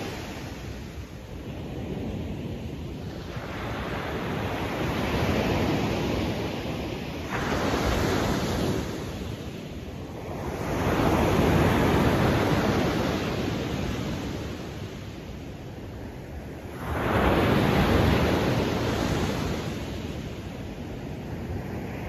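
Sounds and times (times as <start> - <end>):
ocean waves breaking: 0.0 - 15.2, 16.7 - 20.8.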